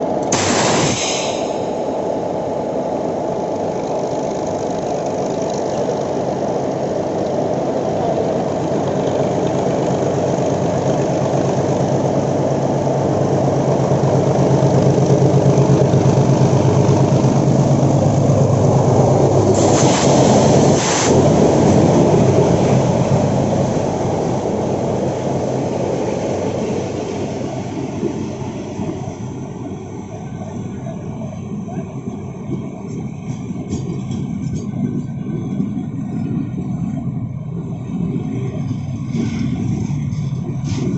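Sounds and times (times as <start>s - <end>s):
locomotive engine droning: 0.0s - 40.9s.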